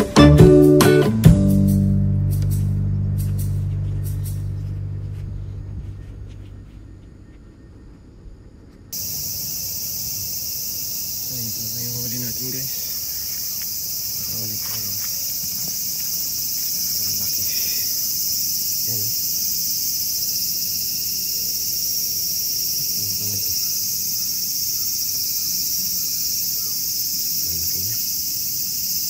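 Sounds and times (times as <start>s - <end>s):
insects buzzing: 2.2s - 29.0s.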